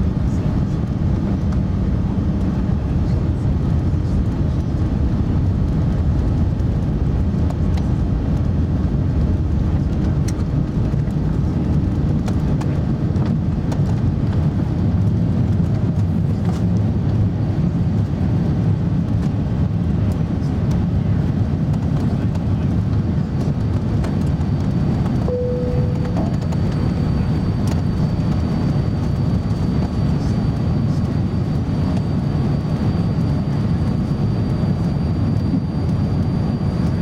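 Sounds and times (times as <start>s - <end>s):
jet engines rumbling in cabin: 0.0s - 37.0s.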